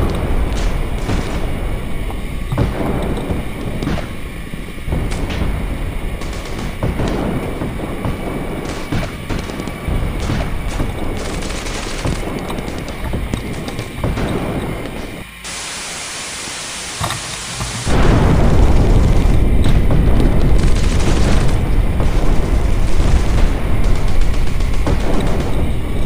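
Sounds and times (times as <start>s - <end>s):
wind buffeting microphone: 0.0s - 15.4s, 17.0s - 26.0s
heavy low rumble: 0.0s - 26.0s
steady hiss: 0.0s - 26.0s.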